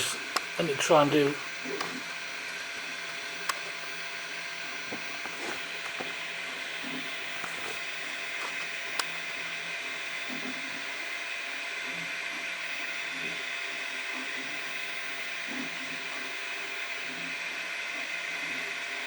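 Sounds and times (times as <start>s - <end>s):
printer motors whirring: 0.0s - 19.0s.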